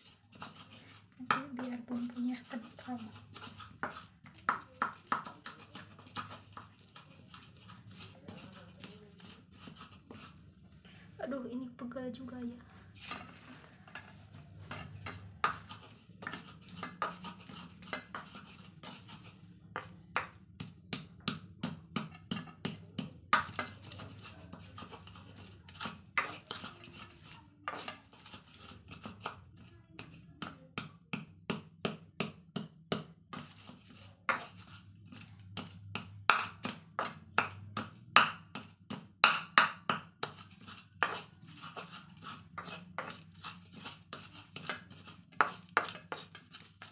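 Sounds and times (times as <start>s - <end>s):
stone pestle pounding in mortar: 0.3s - 10.3s, 14.6s - 46.9s.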